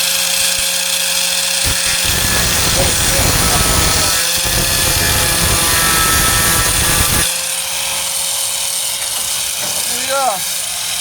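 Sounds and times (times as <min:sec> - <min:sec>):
power tool cutting sheet steel: 0:00.0 - 0:11.0.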